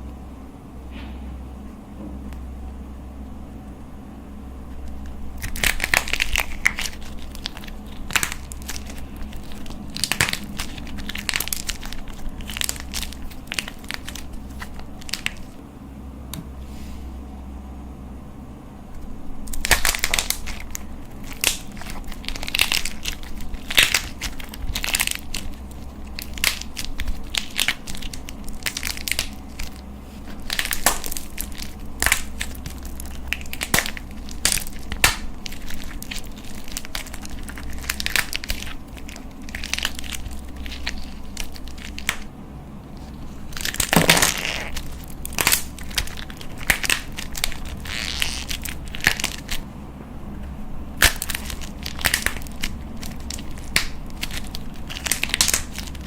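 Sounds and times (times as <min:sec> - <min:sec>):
slime crackling when squeezed: 0:04.9 - 0:15.6, 0:19.4 - 0:42.3, 0:43.0 - 0:49.7, 0:50.9 - 0:56.0.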